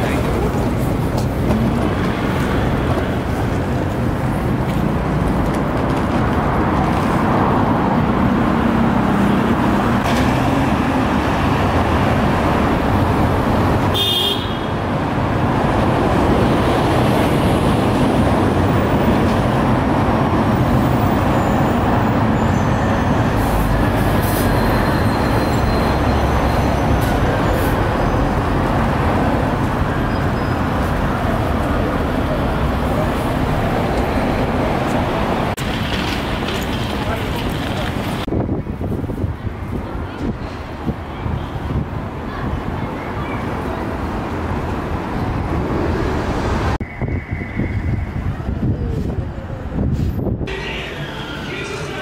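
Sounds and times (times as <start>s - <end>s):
road traffic engine and tyre noise: 0.0s - 52.0s.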